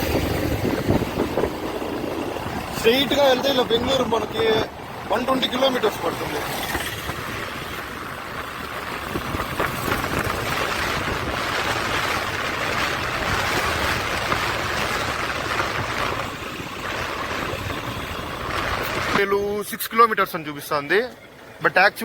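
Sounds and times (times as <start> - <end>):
motorcycle engine running: 0.0 - 5.0, 6.4 - 19.1
wind and road noise: 0.0 - 22.0.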